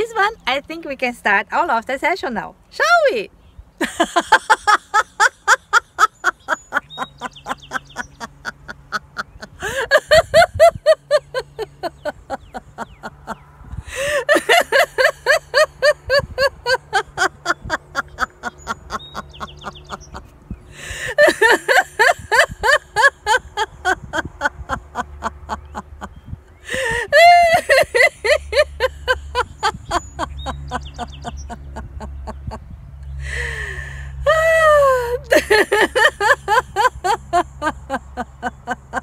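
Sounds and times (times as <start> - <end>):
woman laughing: 3.8 - 39.0.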